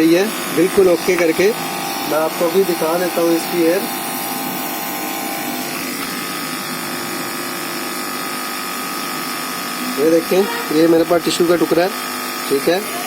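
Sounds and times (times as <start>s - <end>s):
compressor pump buzzing hum: 0.0s - 13.0s.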